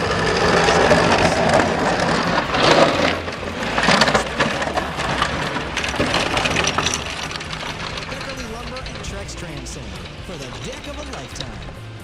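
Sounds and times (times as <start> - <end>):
plow blade scraping snow: 0.0 - 12.0.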